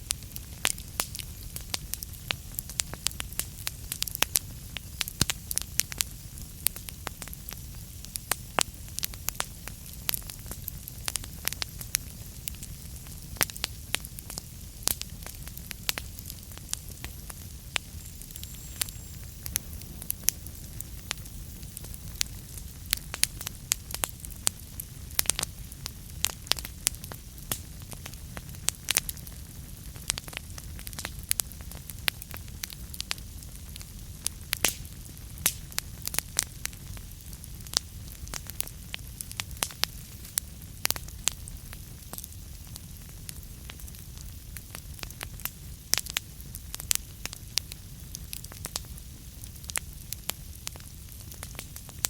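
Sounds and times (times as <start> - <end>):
low rumble of flames: 0.0 - 52.0
burning logs snapping and popping: 0.1 - 52.0.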